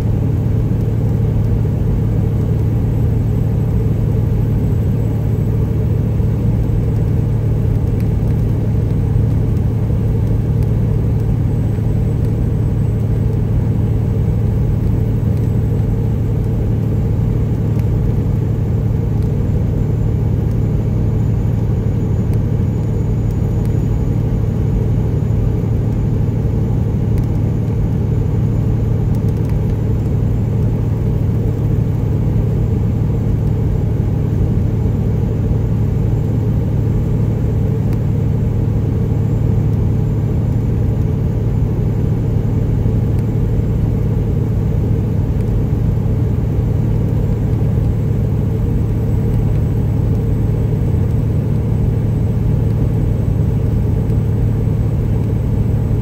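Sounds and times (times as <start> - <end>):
diesel truck engine drone: 0.0 - 56.0.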